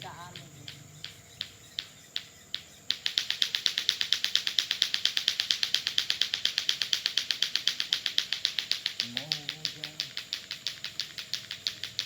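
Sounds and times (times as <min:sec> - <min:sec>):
fast sharp clicks: 0:00.0 - 0:12.0.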